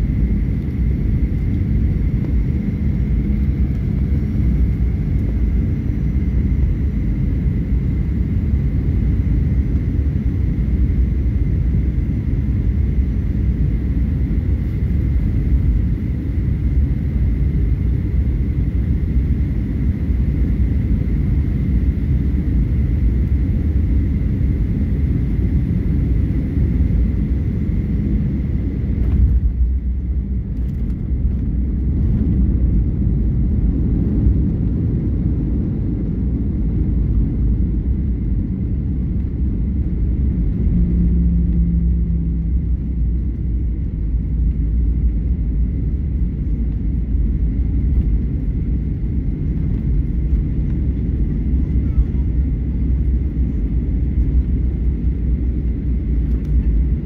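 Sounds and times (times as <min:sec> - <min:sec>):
faint steady whine: 0:00.0 - 0:57.0
jet engine and airflow rumble: 0:00.0 - 0:57.0.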